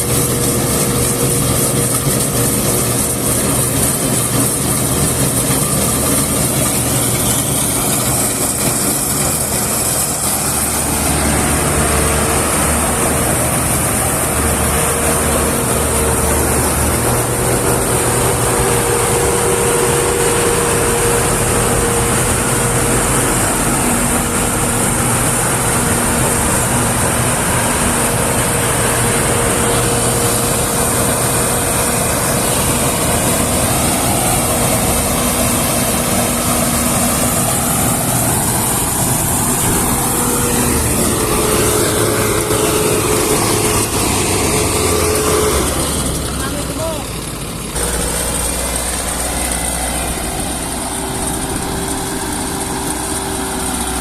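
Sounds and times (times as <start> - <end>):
heavy farm machinery running: 0.0 - 54.0
high steady whine: 0.0 - 54.0.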